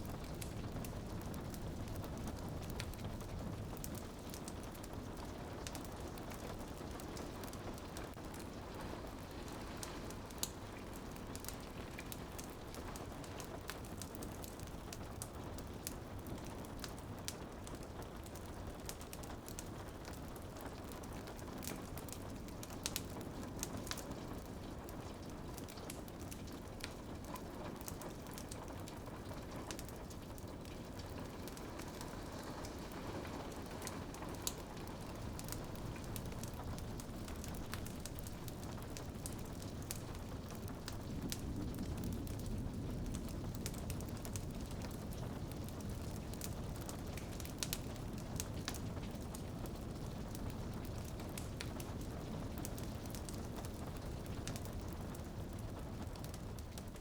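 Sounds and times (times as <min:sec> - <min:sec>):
rain pattering on window glass: 0:00.0 - 0:57.0
wood fire crackling and popping: 0:00.0 - 0:57.0.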